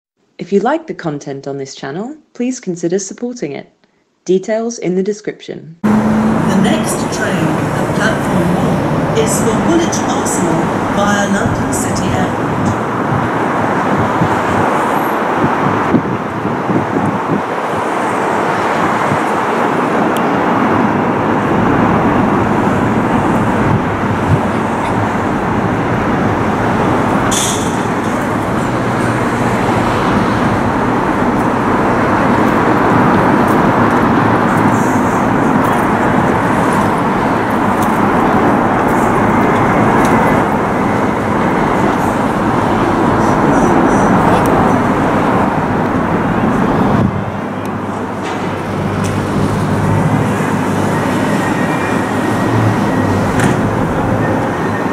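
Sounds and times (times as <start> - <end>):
electric train rumble: 5.8 - 54.9.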